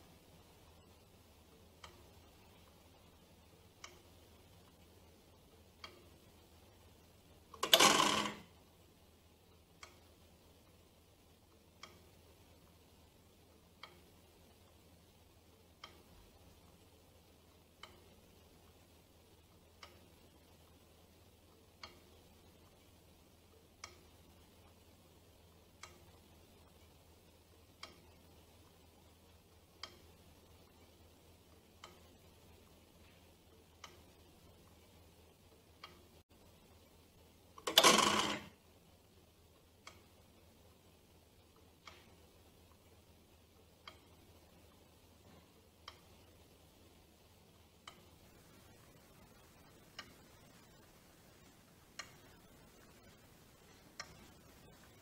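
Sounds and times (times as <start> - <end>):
clock ticking: 0.0 - 55.0
faint low hum: 0.0 - 55.0.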